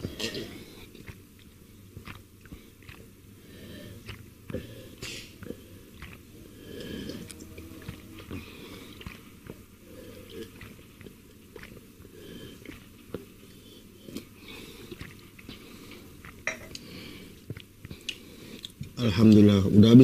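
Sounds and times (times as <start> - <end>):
man swallowing water: 0.0 - 19.0.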